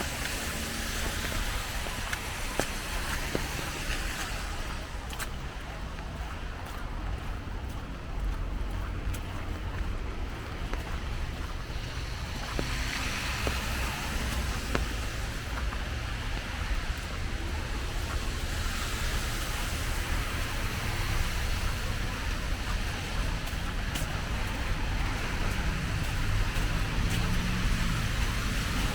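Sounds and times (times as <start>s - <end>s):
traffic hissing on wet pavement: 0.0s - 28.9s.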